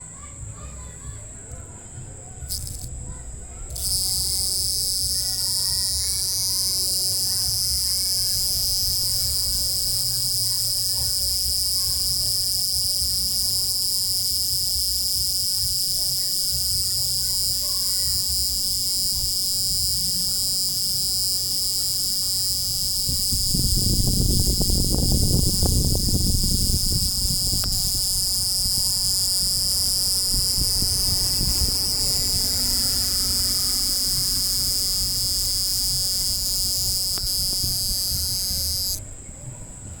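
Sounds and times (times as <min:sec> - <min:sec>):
cricket trilling: 0:02.4 - 0:39.9.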